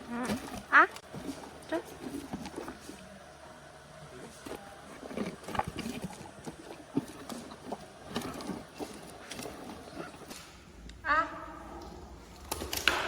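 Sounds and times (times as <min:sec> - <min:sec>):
hippopotamus chewing food: 0:00.0 - 0:10.9.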